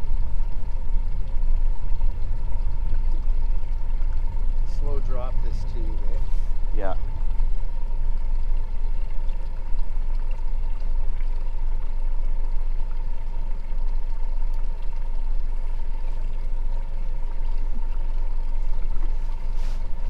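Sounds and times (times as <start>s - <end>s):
faint whine: 0.0s - 20.0s
low rumble: 0.0s - 20.0s
water lapping against boat hull: 0.0s - 20.0s.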